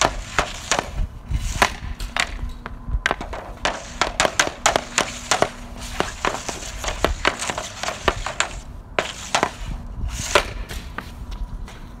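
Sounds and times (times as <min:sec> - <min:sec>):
hockey stick tapping puck: 0:00.0 - 0:01.0, 0:01.6 - 0:09.7, 0:10.3 - 0:11.1
puck shot crack: 0:00.0 - 0:11.1.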